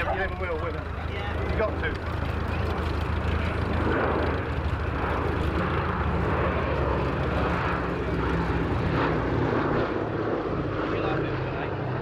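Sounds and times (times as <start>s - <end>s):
aircraft engines droning in flight: 0.0s - 12.0s.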